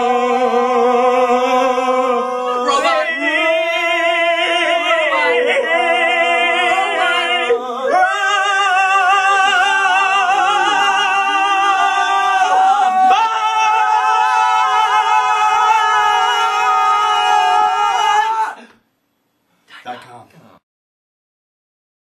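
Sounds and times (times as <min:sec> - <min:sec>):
group singing mock-operatic notes: 0:00.0 - 0:18.7.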